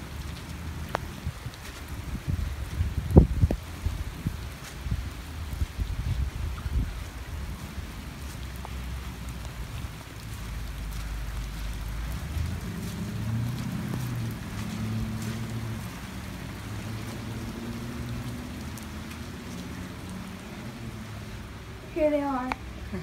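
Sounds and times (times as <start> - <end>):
heavy rain falling: 0.0 - 23.0
raindrops ticking: 0.0 - 23.0.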